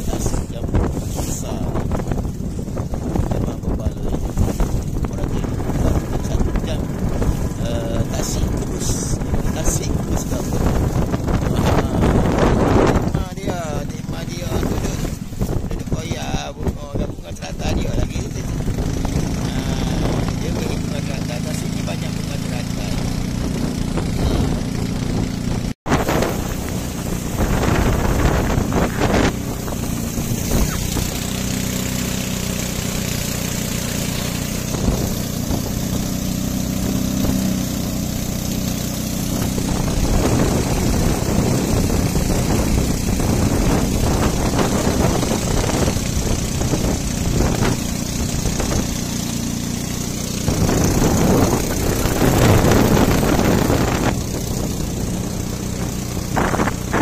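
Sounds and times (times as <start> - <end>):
motorboat engine running: 0.0 - 57.0
water rushing along hull: 0.0 - 57.0.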